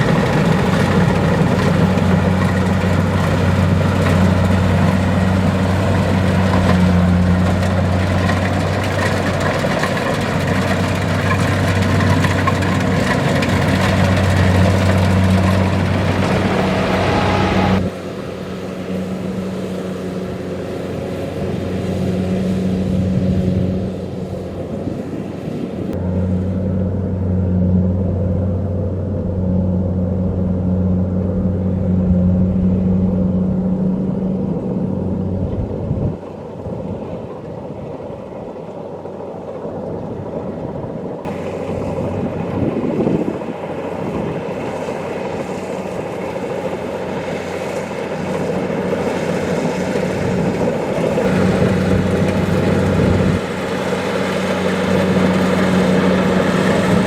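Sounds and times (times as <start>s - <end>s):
combine harvester diesel drone: 0.0s - 57.0s.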